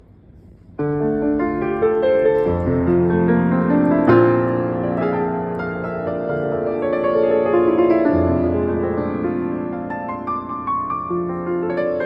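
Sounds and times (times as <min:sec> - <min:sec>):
piano notes and chords: 0:00.6 - 0:12.0.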